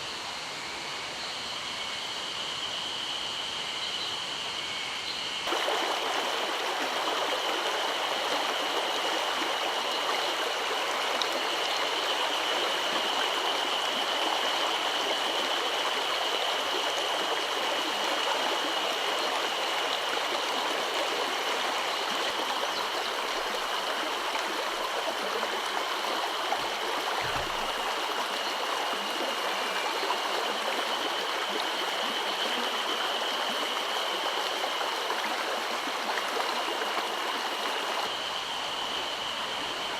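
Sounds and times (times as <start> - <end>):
stream rushing over rocks: 5.5 - 39.9.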